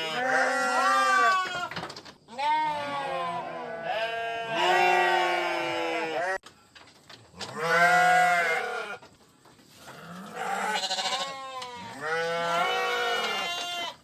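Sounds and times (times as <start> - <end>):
animal bleating: 0.0 - 6.4, 7.4 - 9.0, 9.8 - 14.0.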